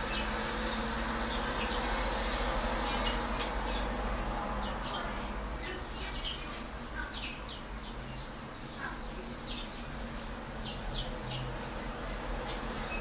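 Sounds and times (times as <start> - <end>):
finch twittering chirps: 0.0 - 13.0.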